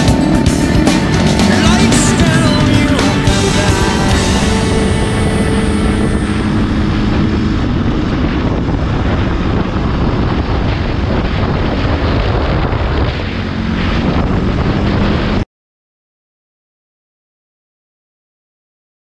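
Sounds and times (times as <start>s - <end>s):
motorcycle engine running: 0.0s - 15.4s
wind buffeting microphone: 0.0s - 15.4s.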